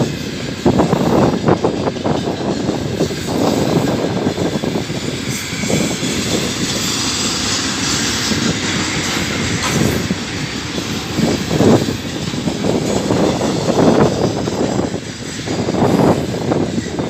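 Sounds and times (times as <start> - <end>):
freight train wheels rumbling on rails: 0.0 - 17.0
train wheels clattering: 0.0 - 17.0.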